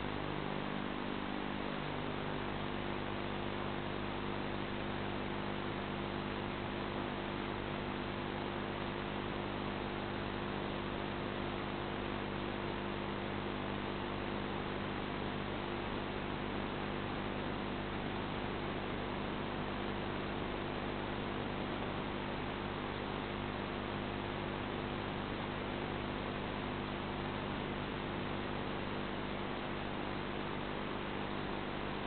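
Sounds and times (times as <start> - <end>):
electrical hum with hiss: 0.0 - 32.0.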